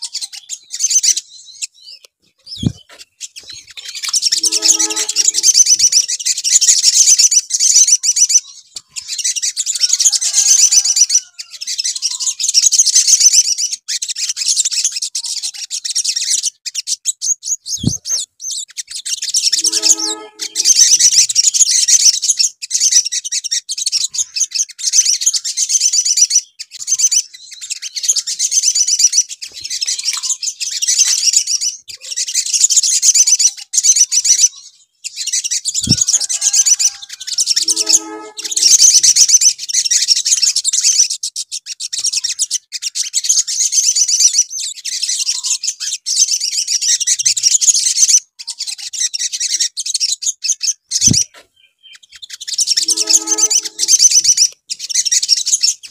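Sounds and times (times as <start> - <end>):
sunbirds singing: 0.0 - 55.9.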